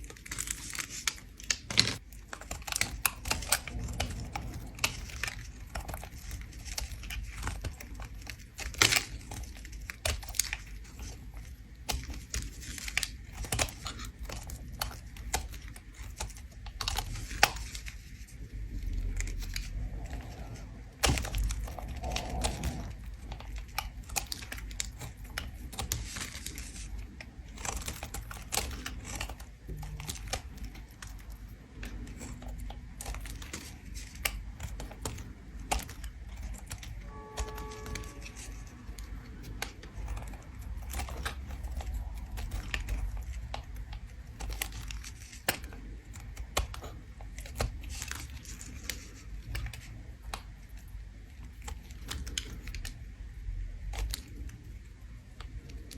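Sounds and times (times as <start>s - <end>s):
tool scraping soap: 0.0s - 54.7s.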